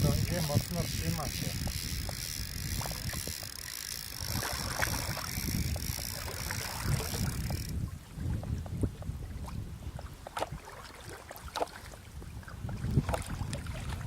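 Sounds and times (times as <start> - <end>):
wind buffeting microphone: 0.0 - 10.8, 11.8 - 14.0
river water splashing: 0.9 - 8.4, 10.0 - 14.0.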